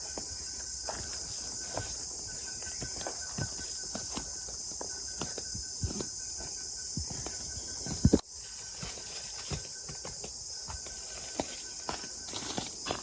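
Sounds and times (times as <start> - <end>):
crickets and insects droning: 0.0 - 13.0
footsteps: 0.0 - 13.0.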